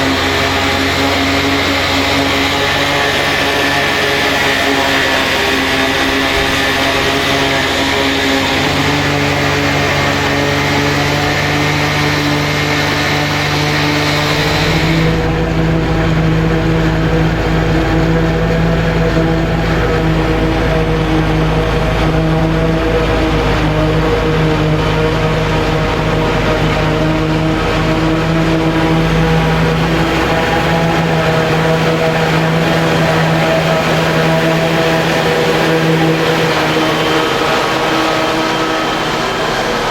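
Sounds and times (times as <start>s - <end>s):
diesel engine running under load: 0.0s - 39.9s
mechanical noise: 0.0s - 39.9s.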